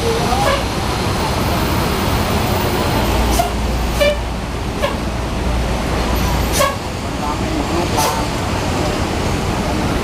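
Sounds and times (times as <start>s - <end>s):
bus engine rumbling: 0.0s - 10.0s
traffic noise: 0.0s - 10.0s.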